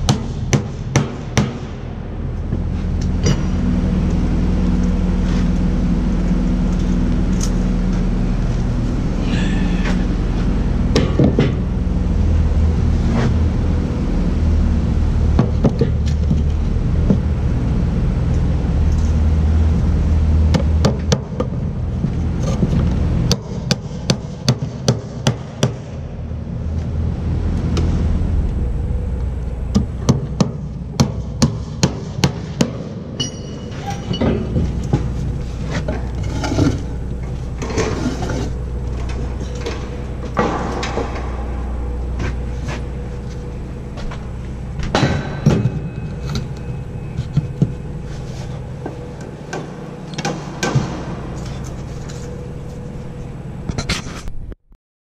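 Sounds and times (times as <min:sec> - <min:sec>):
engine drone: 0:00.0 - 0:54.6.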